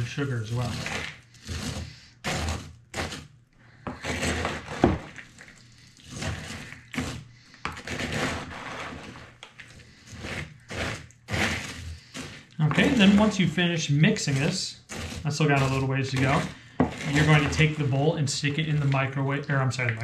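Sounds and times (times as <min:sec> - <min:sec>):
spoon stirring cereal in bowl: 0:00.0 - 0:03.3, 0:03.9 - 0:19.2.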